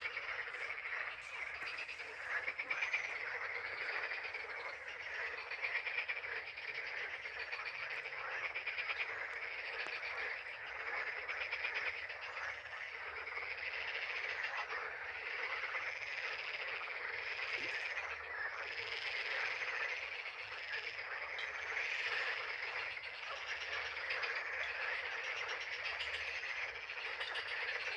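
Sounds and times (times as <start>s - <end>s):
chorus of frogs calling: 0.0s - 27.9s.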